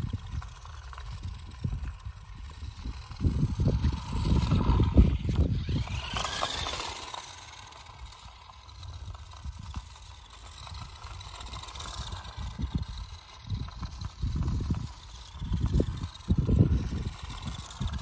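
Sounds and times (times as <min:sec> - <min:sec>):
low rumbling buffeting: 0:00.0 - 0:18.0
toy electric motor whining: 0:00.0 - 0:18.0.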